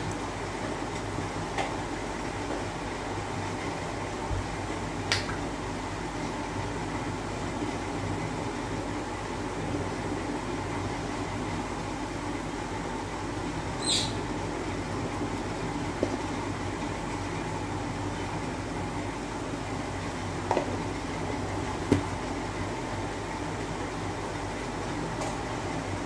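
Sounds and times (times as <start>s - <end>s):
omelette cooking low rumble: 0.0s - 26.0s.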